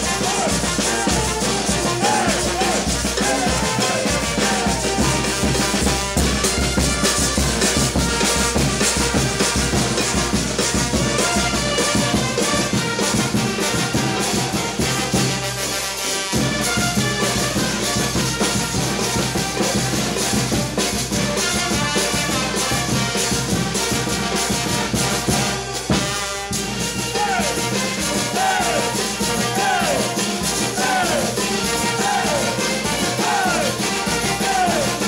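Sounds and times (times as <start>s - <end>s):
brass band playing dance music: 0.0s - 35.0s
cymbals: 0.0s - 35.0s
snare drum: 0.0s - 35.0s.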